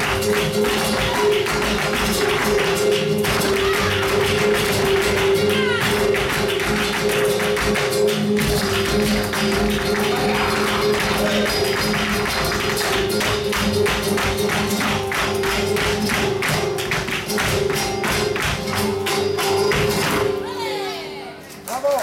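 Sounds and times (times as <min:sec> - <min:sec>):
dancers' shoes stamping: 0:00.0 - 0:20.4
flamenco guitar: 0:00.0 - 0:22.0
percussion: 0:00.0 - 0:22.0.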